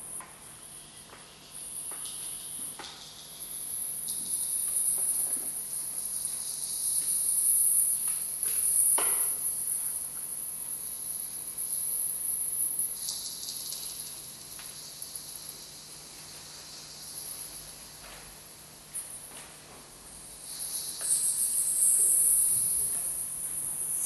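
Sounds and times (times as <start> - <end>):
high hissing electronic texture: 1.5 - 10.0, 10.9 - 18.0, 20.3 - 24.0.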